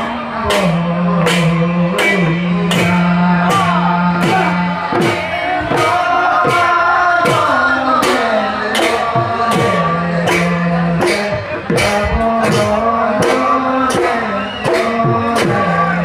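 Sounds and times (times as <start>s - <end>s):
dhol drum beating: 0.0s - 16.0s
person singing long notes: 0.0s - 16.0s.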